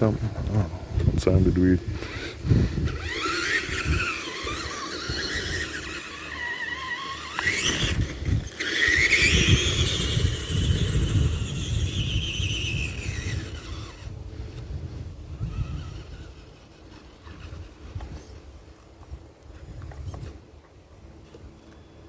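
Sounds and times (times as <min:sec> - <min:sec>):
rumble of tyres and drivetrain: 0:00.1 - 0:22.0
electric motor whining: 0:00.8 - 0:18.6.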